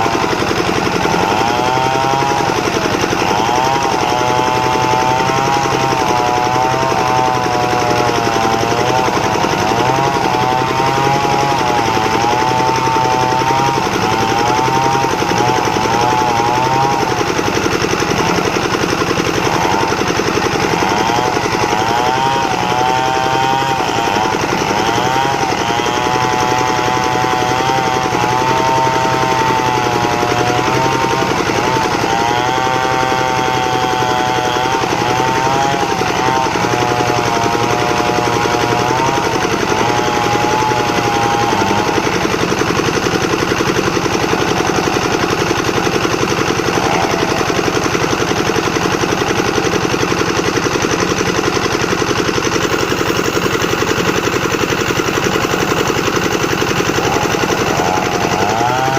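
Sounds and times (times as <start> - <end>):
board-sawing machine running: 0.0 - 58.9.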